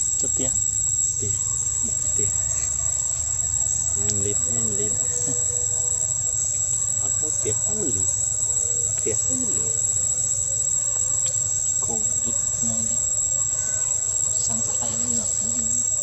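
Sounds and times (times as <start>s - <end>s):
insect chorus droning: 0.0s - 16.0s
soft pulsing chirp: 0.0s - 16.0s.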